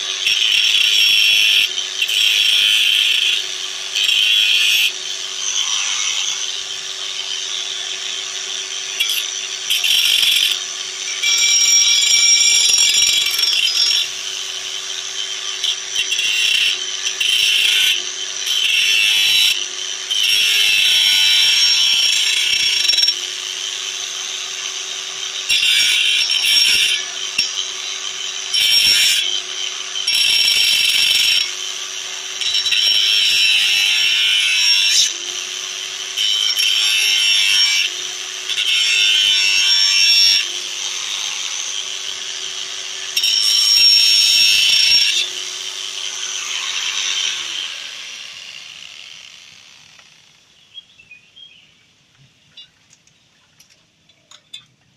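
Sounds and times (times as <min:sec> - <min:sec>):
angle grinder whining: 0:00.0 - 0:50.6.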